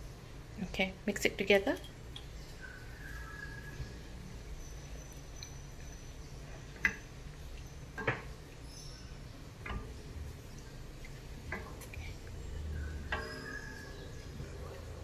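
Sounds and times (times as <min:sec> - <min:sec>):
low steady hum: 0:00.0 - 0:15.0
spatula stirring liquid in a pot: 0:01.8 - 0:15.0.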